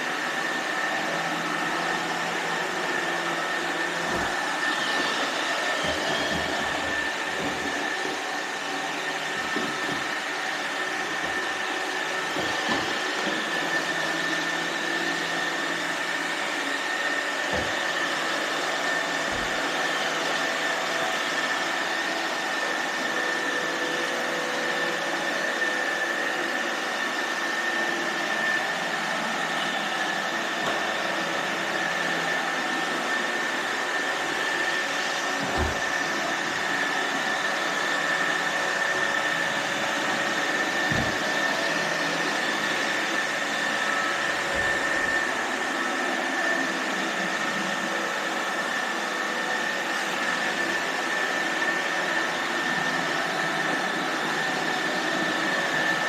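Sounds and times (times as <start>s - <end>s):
robot vacuum whirring: 0.0s - 56.0s.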